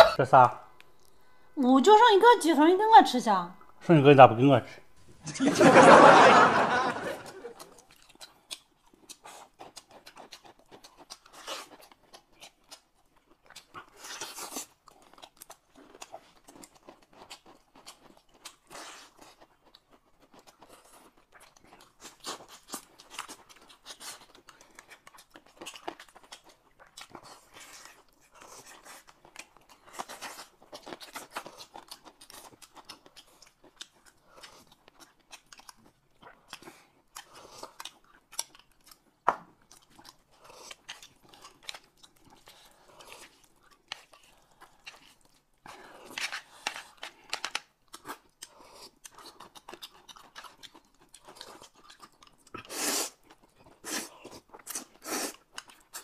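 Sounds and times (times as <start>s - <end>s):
chewing and biting crunches: 7.1s - 56.0s.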